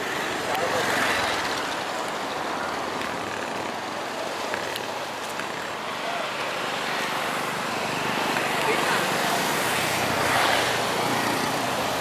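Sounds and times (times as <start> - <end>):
flooded river rushing: 0.0 - 12.0.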